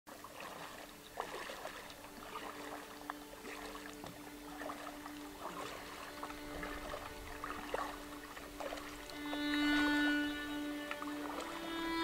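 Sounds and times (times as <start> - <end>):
water dripping and trickling: 0.1 - 12.0.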